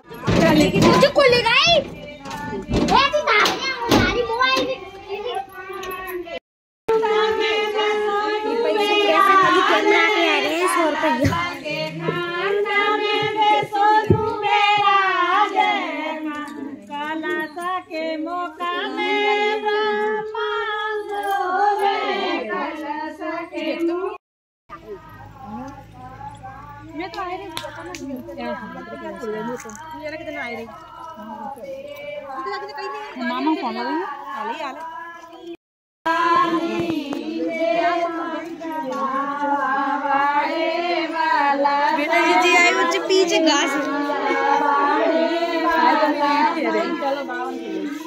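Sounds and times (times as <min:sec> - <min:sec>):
women singing without accompaniment: 0:05.9 - 0:24.2, 0:25.0 - 0:48.0.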